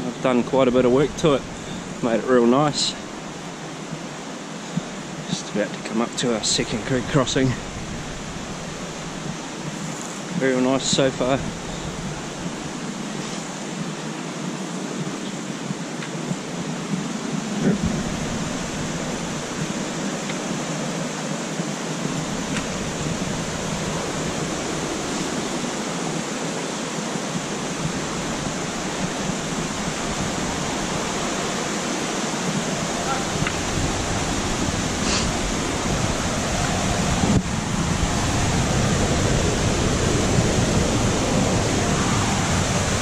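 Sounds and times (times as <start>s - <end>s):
stream rushing over rocks: 0.0s - 43.0s.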